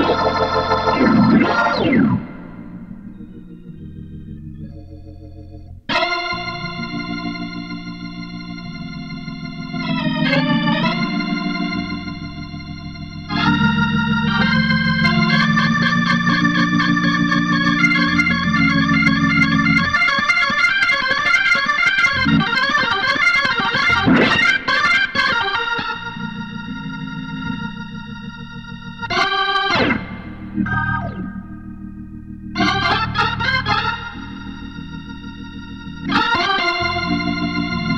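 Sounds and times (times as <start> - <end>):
organ music: 0.0 - 37.9.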